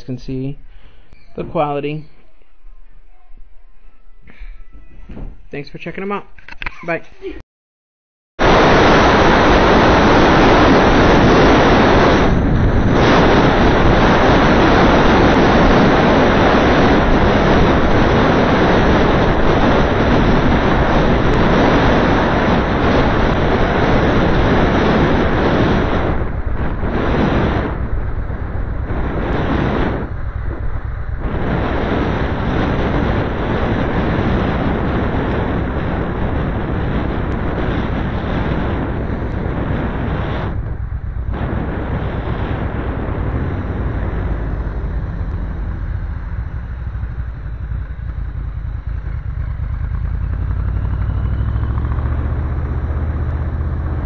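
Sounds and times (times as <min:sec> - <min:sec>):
wind and road noise from car: 0:08.4 - 0:54.0.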